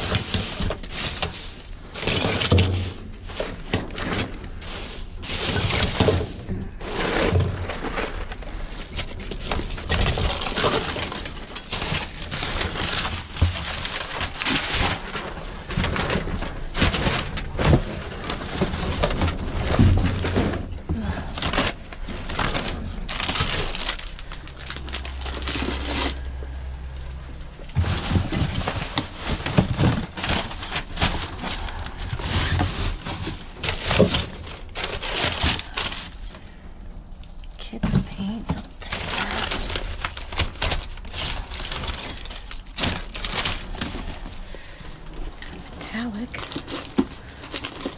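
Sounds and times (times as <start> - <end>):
low steady hum: 0.0 - 47.9
trash rustling and crinkling: 0.0 - 47.9.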